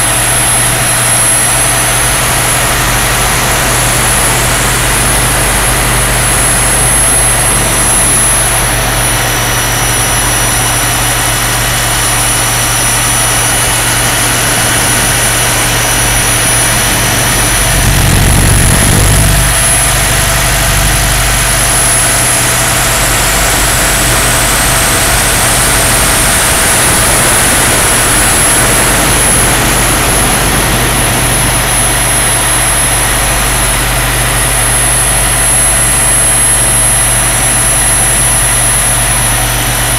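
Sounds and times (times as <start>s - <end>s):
model helicopter engine and rotor: 0.0s - 39.9s.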